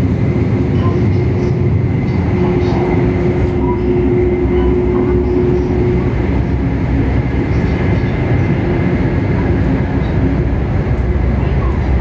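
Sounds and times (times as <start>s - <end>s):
steady hum: 0.0s - 12.0s
train interior rumble: 0.0s - 12.0s.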